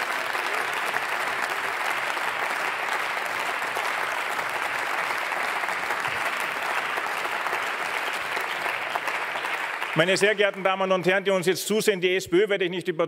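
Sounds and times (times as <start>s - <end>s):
crowd applauding: 0.0s - 11.3s.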